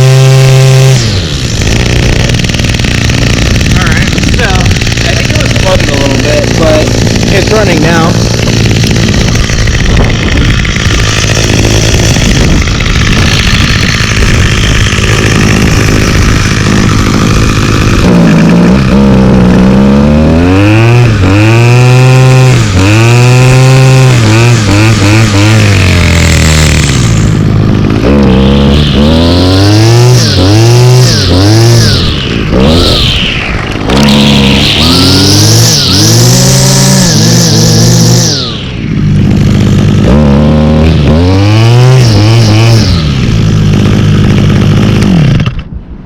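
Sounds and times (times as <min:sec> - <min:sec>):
string trimmer engine revving: 0:00.0 - 0:46.0.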